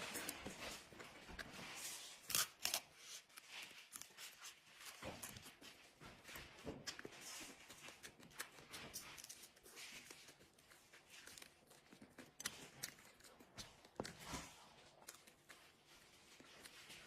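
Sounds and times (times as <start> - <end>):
chewing noodles: 0.0 - 17.0.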